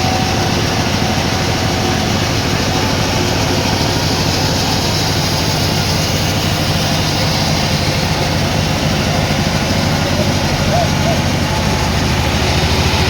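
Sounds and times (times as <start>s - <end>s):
dense rushing noise: 0.0s - 13.0s
sawmill machinery hum: 0.0s - 13.0s.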